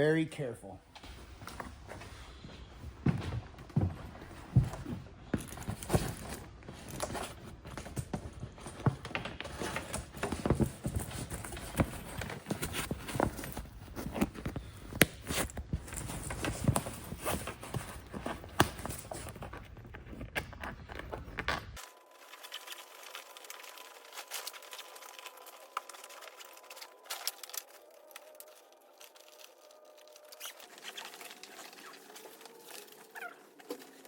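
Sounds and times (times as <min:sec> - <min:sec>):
rustling: 0:01.0 - 0:34.0.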